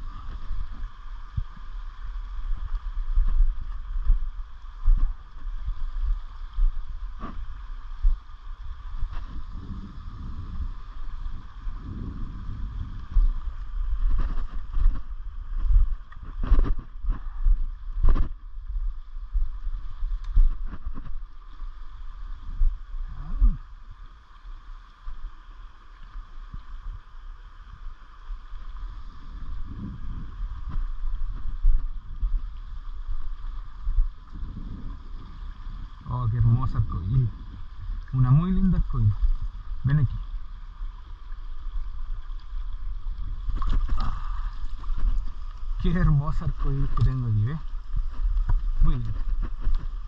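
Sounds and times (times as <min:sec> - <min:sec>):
wind noise on microphone: 0:00.0 - 0:24.0, 0:26.4 - 0:50.0
flowing water: 0:00.0 - 0:50.0.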